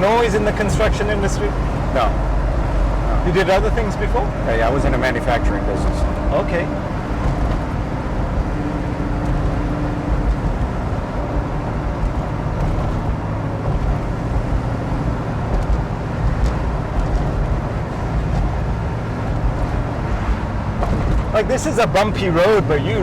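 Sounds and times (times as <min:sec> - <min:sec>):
car engine cruising drone: 0:00.0 - 0:23.0
road and tyre noise: 0:00.0 - 0:23.0.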